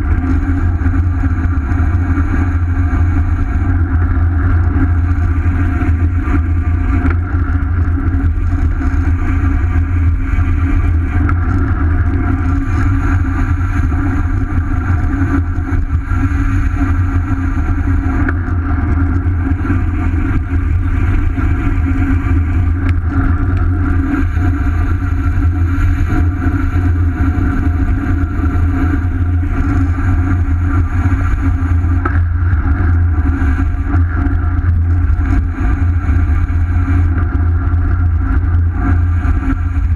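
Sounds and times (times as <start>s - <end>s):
road noise: 0.0s - 39.9s
steady higher hum: 0.0s - 39.9s.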